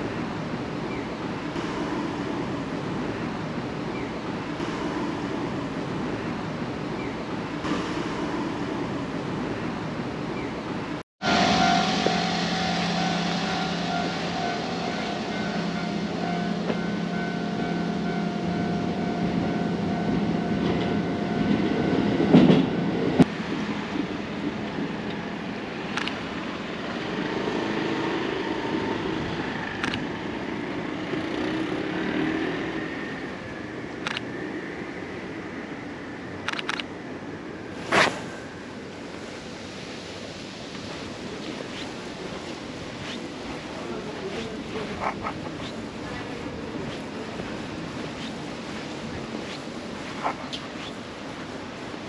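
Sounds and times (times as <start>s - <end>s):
street ambience: 0.0s - 52.0s
train passing with hum and whine: 0.0s - 52.0s.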